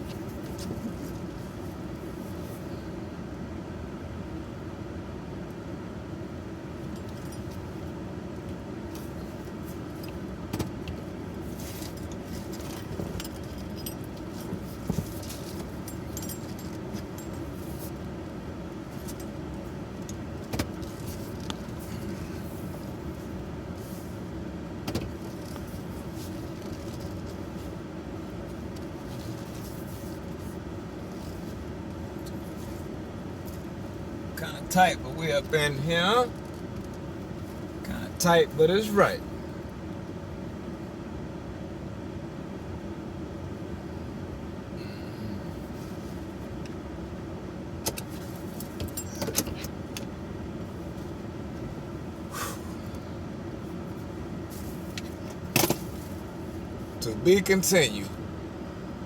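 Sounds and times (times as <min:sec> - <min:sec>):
truck engine and road hum: 0:00.0 - 0:59.0.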